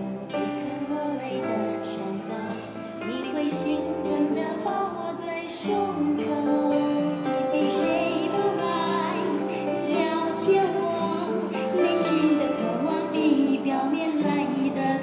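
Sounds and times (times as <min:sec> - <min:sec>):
women singing through microphones: 0:00.0 - 0:15.0.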